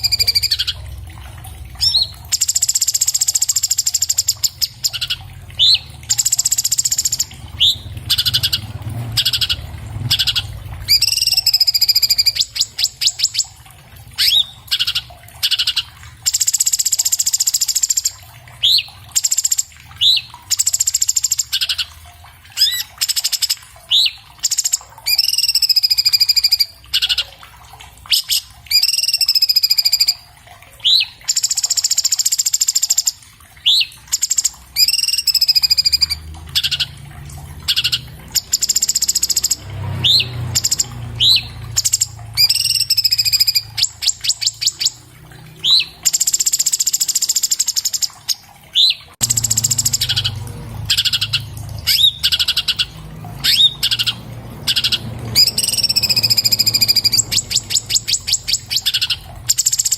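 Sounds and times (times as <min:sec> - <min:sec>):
bird singing: 0:00.0 - 0:00.8, 0:01.8 - 0:13.5, 0:14.2 - 0:21.9, 0:22.6 - 0:27.3, 0:28.1 - 0:30.2, 0:30.8 - 0:37.0, 0:37.7 - 0:45.0, 0:45.6 - 0:59.9.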